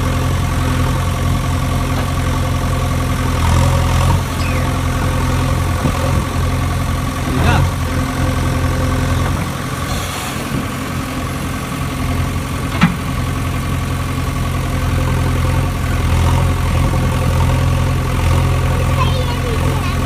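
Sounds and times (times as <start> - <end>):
engine-like idling drone: 0.0 - 20.0.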